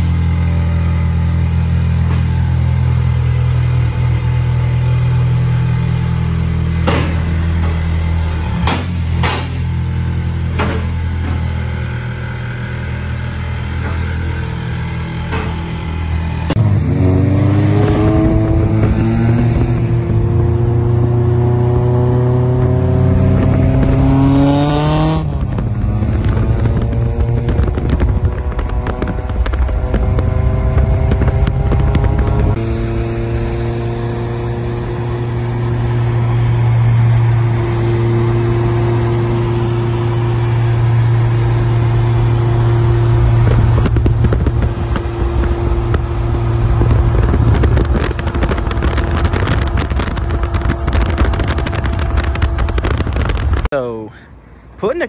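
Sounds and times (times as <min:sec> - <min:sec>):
car engine accelerating hard: 0:00.0 - 0:53.7.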